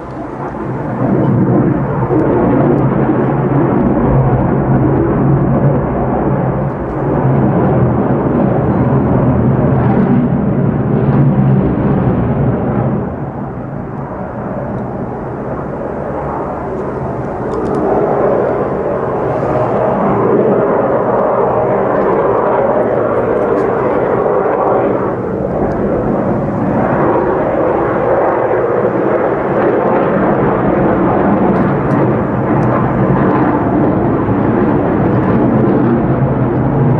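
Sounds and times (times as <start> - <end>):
jet engine rumble: 0.0 - 36.9.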